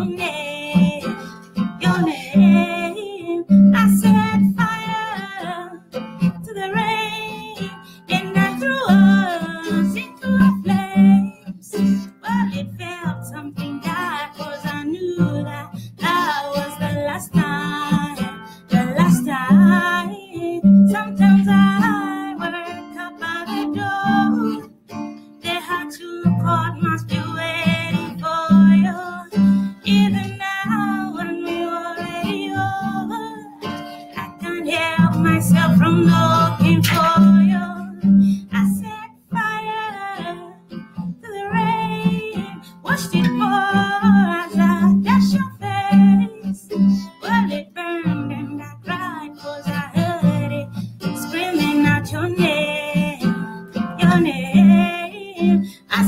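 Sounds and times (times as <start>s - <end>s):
woman singing pop ballad: 0.0s - 24.7s, 25.4s - 56.0s
strummed acoustic guitar: 0.0s - 56.0s.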